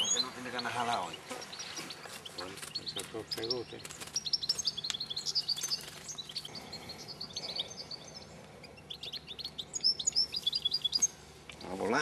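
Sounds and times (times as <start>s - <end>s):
finches twittering: 0.0s - 12.0s.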